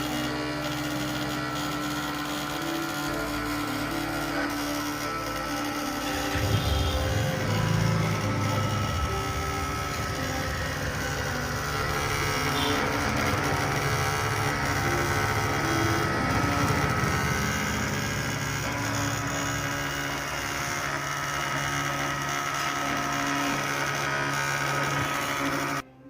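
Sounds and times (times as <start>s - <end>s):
small motor whirring: 0.0s - 25.9s.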